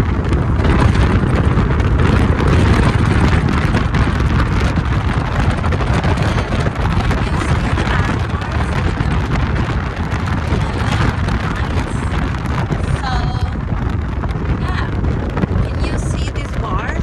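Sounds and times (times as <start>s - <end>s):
car road noise rumble: 0.0s - 17.0s
wind buffeting microphone: 0.0s - 17.0s.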